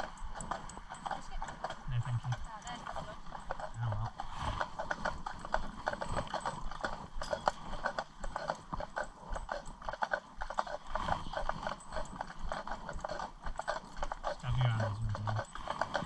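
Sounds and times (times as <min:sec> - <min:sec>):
horse hooves clip-clopping on road: 0:00.0 - 0:16.0.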